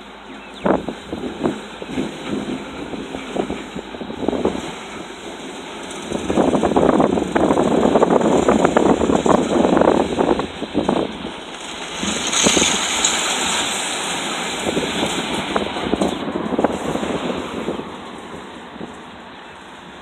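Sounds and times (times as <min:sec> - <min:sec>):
load pouring from dump truck: 0:00.0 - 0:20.0.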